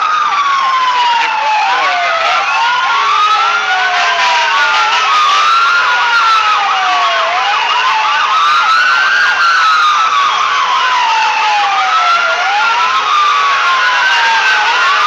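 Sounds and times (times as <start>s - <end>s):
sirens wailing: 0.0s - 15.0s
sirens yelping: 0.0s - 15.0s.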